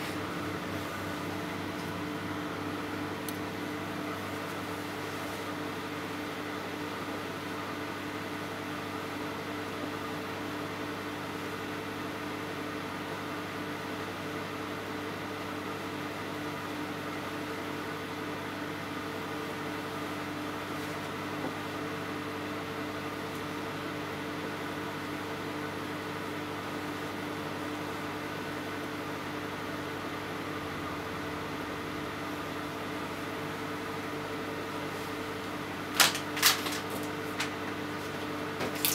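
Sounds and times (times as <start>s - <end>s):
microwave oven humming: 0.0s - 38.9s.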